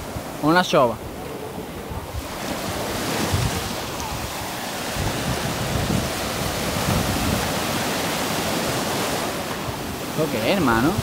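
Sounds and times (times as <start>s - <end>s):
small waves breaking on a beach: 0.0s - 11.0s
wind buffeting the microphone: 0.0s - 11.0s.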